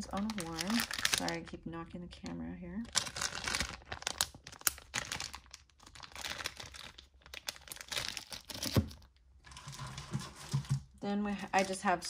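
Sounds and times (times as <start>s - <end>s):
packaging crinkling and rustling: 0.0s - 1.6s, 2.8s - 12.0s.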